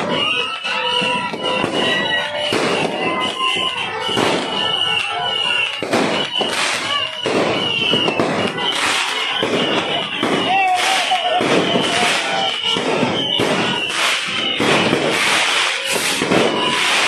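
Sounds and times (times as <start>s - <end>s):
firecracker bangs: 0.0s - 17.0s
fireworks hissing and crackling: 0.0s - 17.0s.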